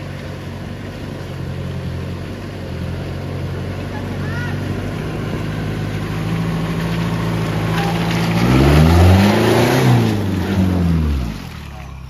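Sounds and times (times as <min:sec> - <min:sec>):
tyres churning mud: 0:00.0 - 0:12.0
vehicle engine revving: 0:00.0 - 0:12.0.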